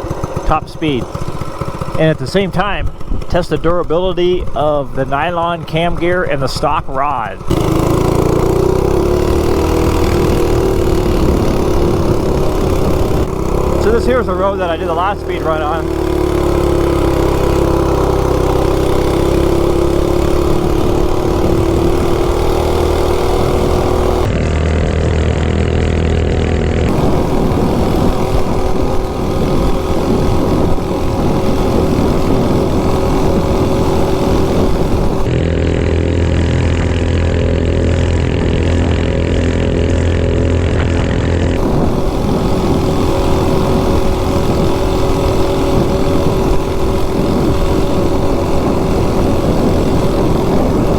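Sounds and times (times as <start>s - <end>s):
minibike engine at full throttle: 0.0s - 50.9s
wind rumble on microphone: 2.4s - 50.9s.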